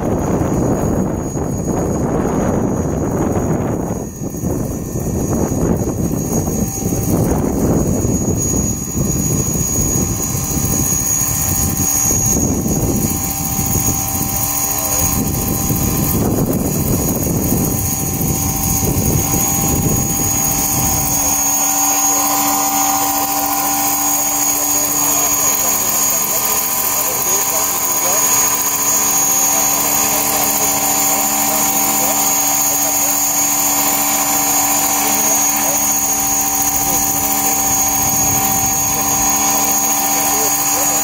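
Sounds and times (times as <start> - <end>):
helicopter rotor blades whirring: 0.0 - 41.0
high electric motor whine: 0.0 - 41.0.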